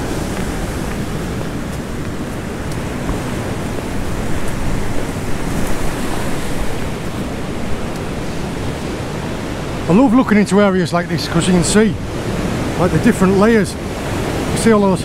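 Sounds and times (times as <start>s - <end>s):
sea waves breaking on rocks: 0.0s - 15.0s.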